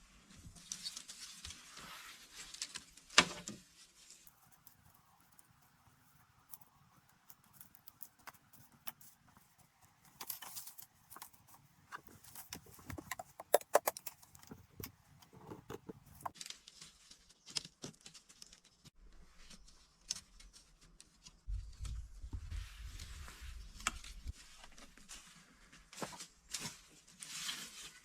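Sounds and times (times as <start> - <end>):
bamboo and dry grass rustling: 0.0 - 28.0.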